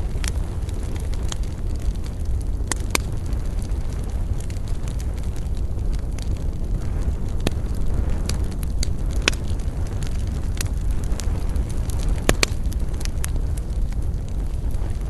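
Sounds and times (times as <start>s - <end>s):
bonfire roaring: 0.0s - 15.0s
burning wood crackling and popping: 0.0s - 15.0s.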